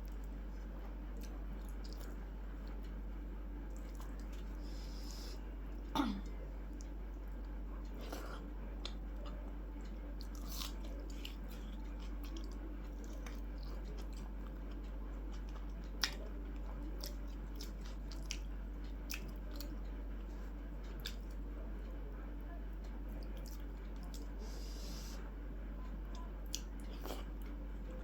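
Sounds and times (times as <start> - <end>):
person chewing food: 0.0 - 3.0, 3.7 - 5.9, 6.7 - 21.5, 23.1 - 25.2, 26.1 - 27.6
steady low hum: 0.0 - 28.0.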